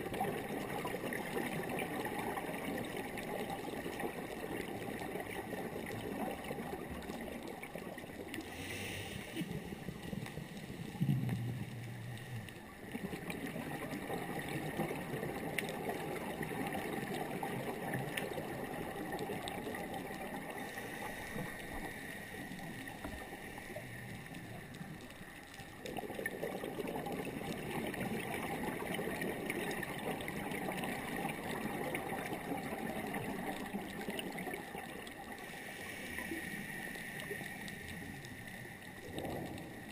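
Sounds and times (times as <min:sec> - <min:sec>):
muffled underwater rushing: 0:00.0 - 0:39.9.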